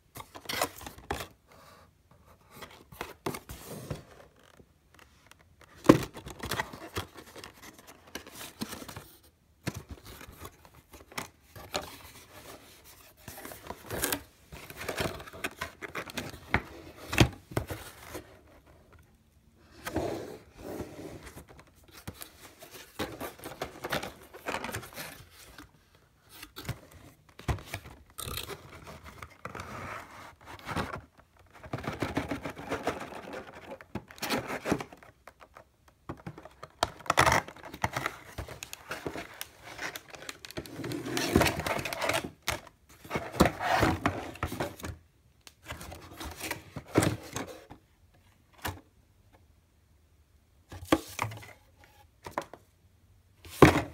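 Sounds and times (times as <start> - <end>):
cardboard rustling: 0.2 - 19.0, 19.7 - 45.0.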